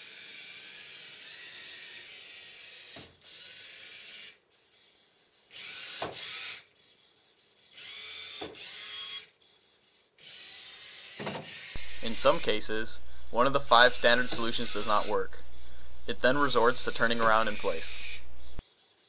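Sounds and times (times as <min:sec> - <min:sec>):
robot motors and treads whirring: 0:00.0 - 0:19.0.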